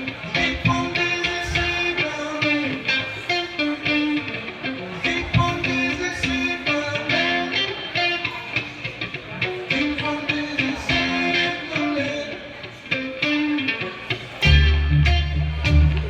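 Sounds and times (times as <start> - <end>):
guitar picking a melody: 0.0 - 16.0.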